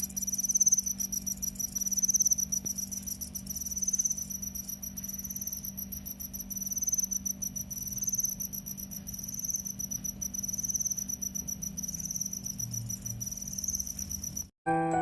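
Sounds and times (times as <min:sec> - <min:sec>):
cricket chirping: 0:00.0 - 0:14.5.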